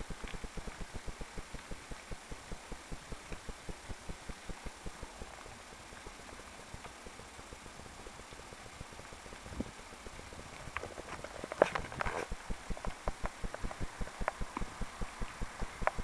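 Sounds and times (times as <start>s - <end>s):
rapid low thumping: 0.0s - 11.0s, 12.2s - 16.0s
rain falling: 0.0s - 16.0s.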